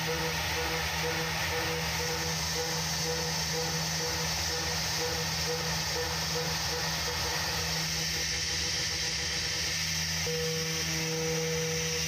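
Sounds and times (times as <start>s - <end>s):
milling machine hiss and hum: 0.0s - 12.0s.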